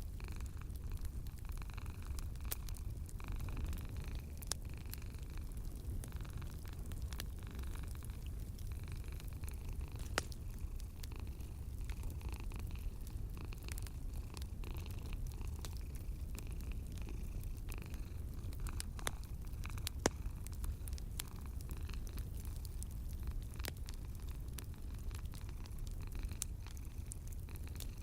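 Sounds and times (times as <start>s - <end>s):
cat purring: 0.0s - 28.0s
fire crackling and popping: 0.0s - 28.0s.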